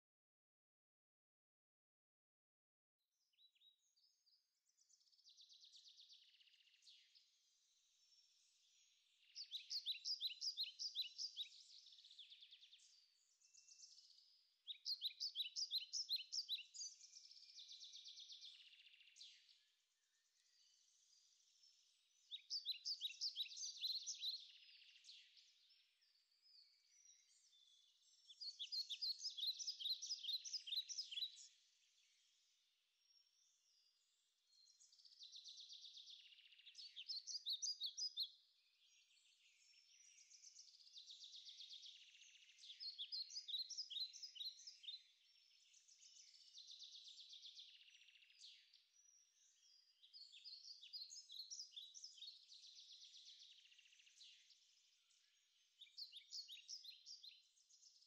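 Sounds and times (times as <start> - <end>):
soft bird twittering: 3.5 - 32.5, 33.1 - 58.0.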